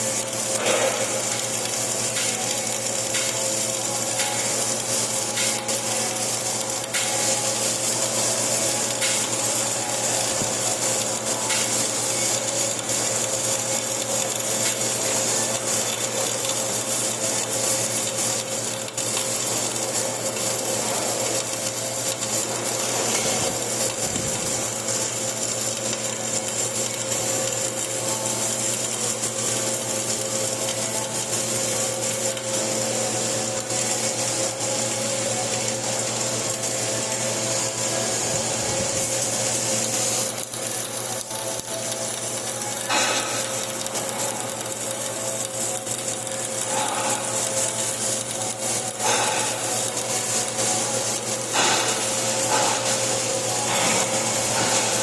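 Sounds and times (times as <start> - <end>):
welding arc crackling sizzle: 0.0 - 55.0.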